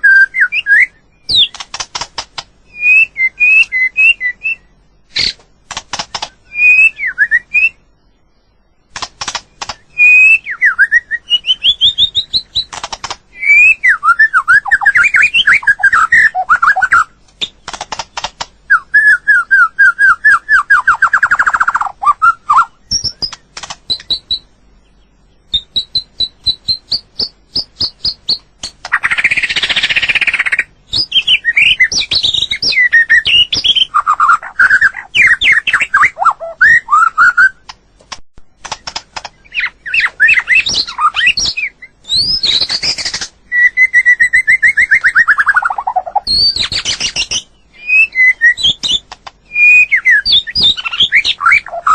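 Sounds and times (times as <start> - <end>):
bird singing whistled phrases: 0.0 - 1.6, 2.7 - 5.4, 6.4 - 7.8, 9.7 - 12.7, 13.3 - 17.2, 18.7 - 24.5, 25.5 - 37.6, 39.4 - 51.9.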